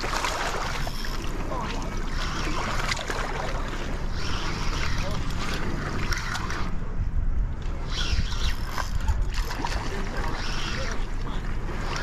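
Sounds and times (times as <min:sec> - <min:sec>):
water splashing against rocks: 0:00.0 - 0:06.7, 0:08.8 - 0:12.0
wind rumbling on microphone: 0:00.0 - 0:12.0.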